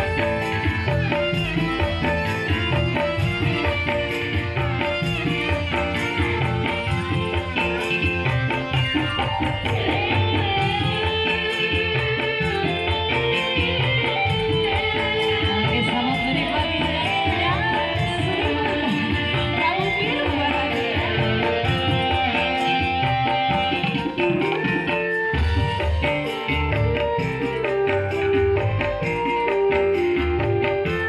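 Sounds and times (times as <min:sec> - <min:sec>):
electronic keyboard music: 0:00.0 - 0:31.0.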